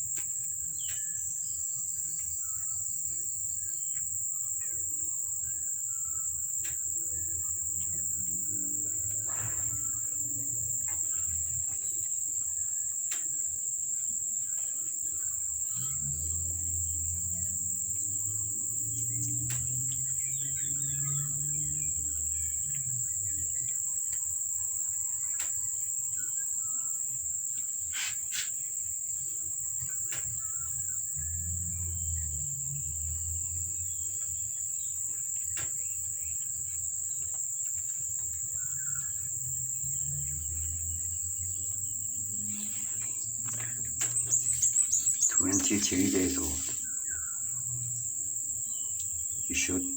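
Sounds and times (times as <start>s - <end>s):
crickets trilling: 0.0s - 49.9s.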